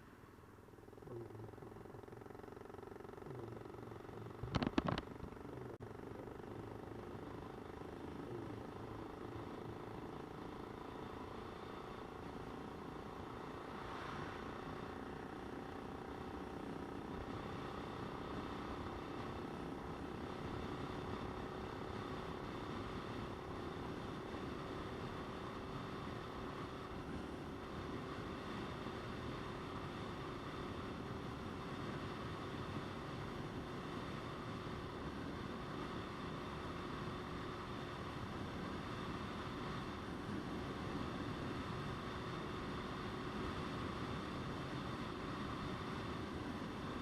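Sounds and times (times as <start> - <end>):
wind and road noise: 0.0 - 47.0
motorcycle engine: 0.2 - 46.8.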